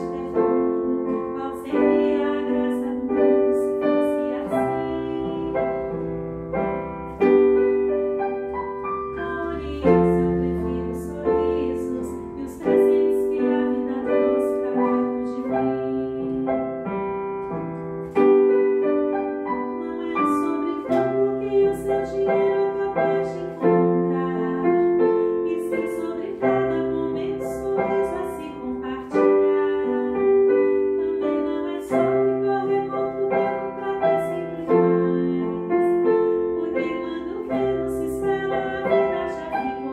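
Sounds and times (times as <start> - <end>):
woman singing slow song: 0.0 - 6.0, 9.1 - 16.9, 19.6 - 39.9
piano chords: 0.0 - 39.9.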